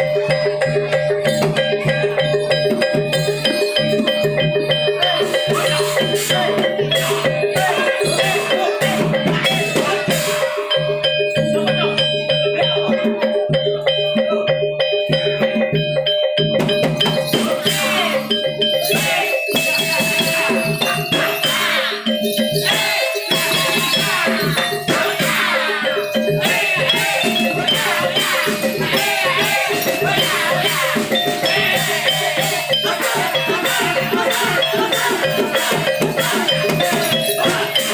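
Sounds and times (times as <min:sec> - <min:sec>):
drums: 0:00.0 - 0:37.9
gamelan metallic notes: 0:00.0 - 0:37.9
struck metal percussion: 0:00.0 - 0:37.9.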